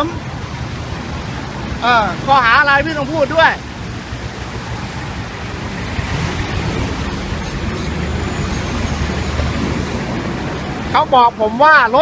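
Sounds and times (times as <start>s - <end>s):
low engine rumble: 0.0s - 11.6s
passing vehicles rushing: 0.0s - 12.0s.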